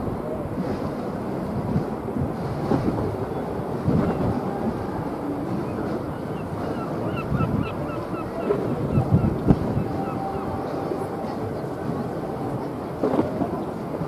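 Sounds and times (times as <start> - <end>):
calm sea washing: 0.0 - 14.0
wind buffeting microphone: 0.0 - 14.0.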